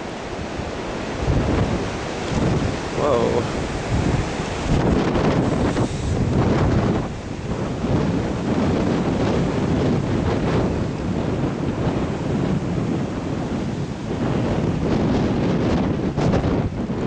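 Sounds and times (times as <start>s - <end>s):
wind buffeting microphone: 0.0s - 17.0s
wind gusting through trees: 0.0s - 17.0s.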